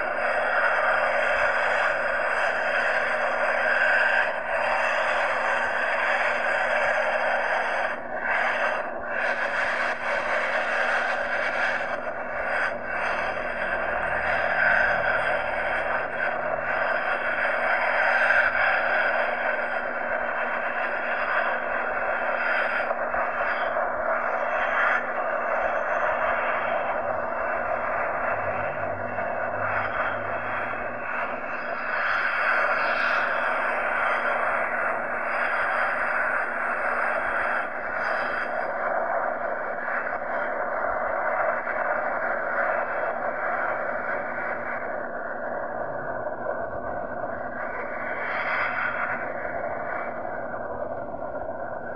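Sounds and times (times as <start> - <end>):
jet engines rushing: 0.0 - 51.9.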